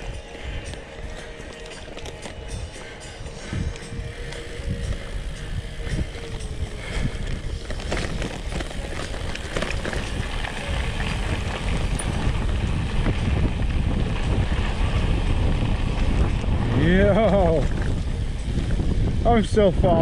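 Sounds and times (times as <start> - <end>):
bike rattling over bumps: 0.0 - 20.0
wind rushing over microphone: 0.0 - 20.0.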